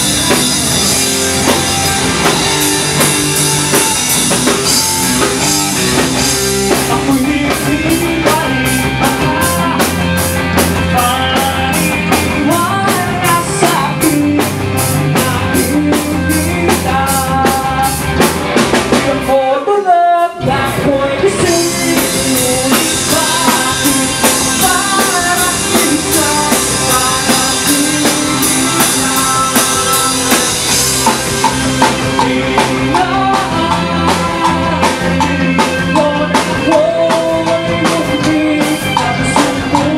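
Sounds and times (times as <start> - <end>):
drum kit: 0.0 - 39.9
live rock band playing: 0.0 - 39.9
person singing: 2.4 - 18.2, 18.9 - 39.9.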